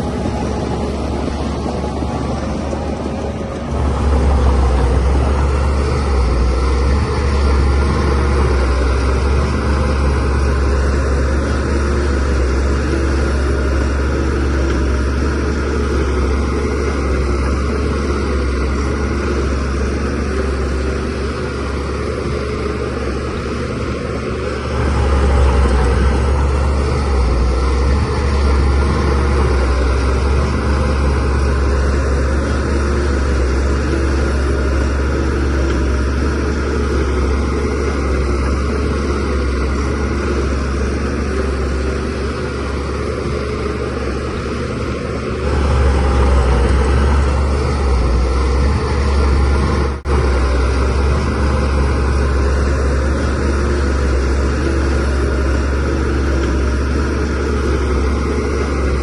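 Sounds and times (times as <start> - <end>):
bulldozer diesel engine rumbling: 0.0 - 59.0.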